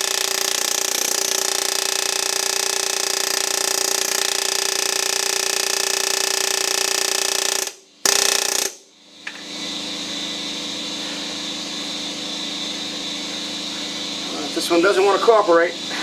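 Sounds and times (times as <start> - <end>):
steady mechanical hum: 0.0 - 8.1, 8.7 - 16.0
hammering power tool: 0.0 - 16.0.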